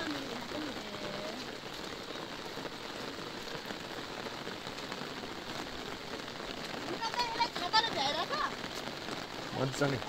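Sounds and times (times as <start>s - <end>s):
heavy rain on an umbrella: 0.0s - 10.0s.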